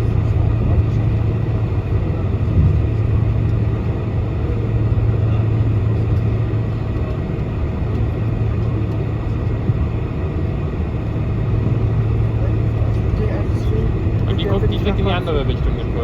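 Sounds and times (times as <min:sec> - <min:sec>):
engines idling low hum: 0:00.0 - 0:16.0.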